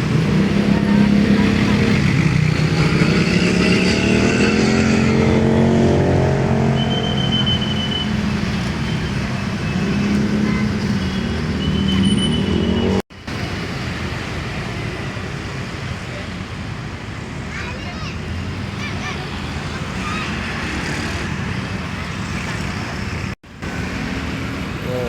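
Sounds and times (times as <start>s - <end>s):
road traffic: 0.0s - 25.0s.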